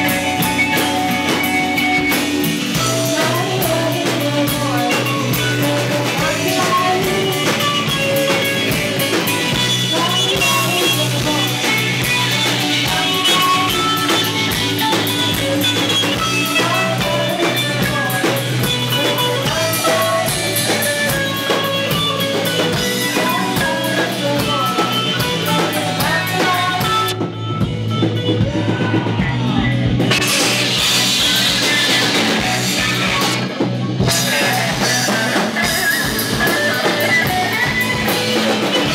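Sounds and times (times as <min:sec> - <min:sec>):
rock band playing: 0:00.0 - 0:38.9
woman singing: 0:02.7 - 0:27.2, 0:28.4 - 0:38.9.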